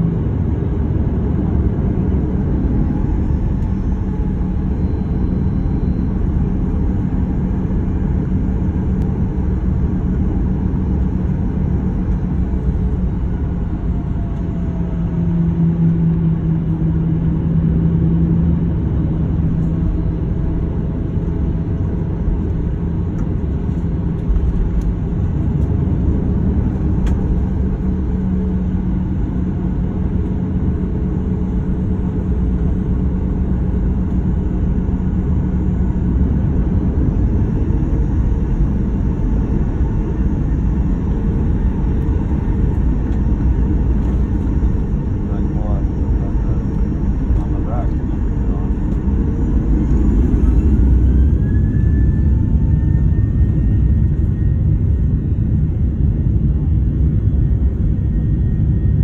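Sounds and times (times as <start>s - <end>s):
airplane engines rumbling: 0.0s - 59.0s.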